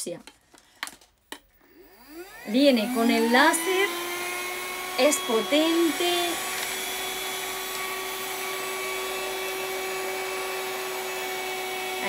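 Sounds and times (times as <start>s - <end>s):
handheld vacuum cleaner running: 1.5s - 12.0s.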